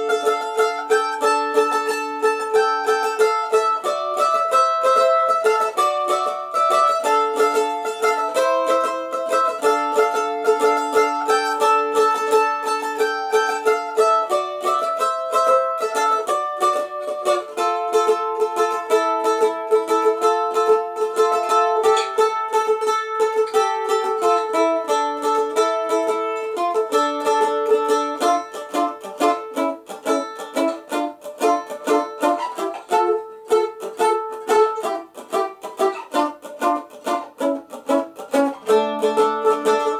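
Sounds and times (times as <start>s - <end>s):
mandolin melody: 0.0s - 39.9s.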